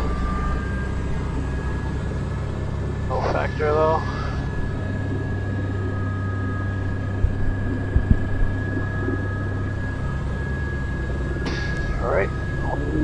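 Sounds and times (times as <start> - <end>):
helicopter rotor and engine drone: 0.0 - 13.0
high whine: 0.0 - 13.0.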